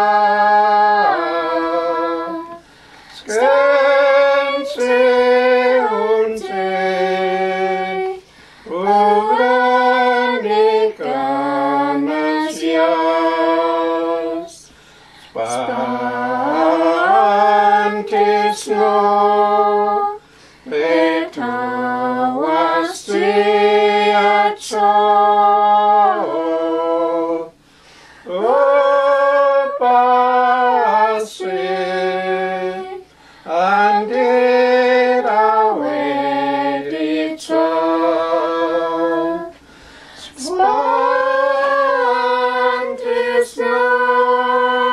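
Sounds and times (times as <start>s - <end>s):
women singing a hymn unaccompanied: 0.0s - 27.6s, 28.2s - 44.9s.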